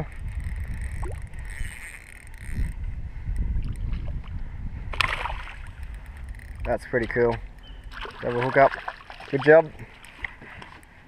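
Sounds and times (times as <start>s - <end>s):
water around boat: 0.0s - 11.0s
wind buffeting microphone: 0.0s - 11.0s.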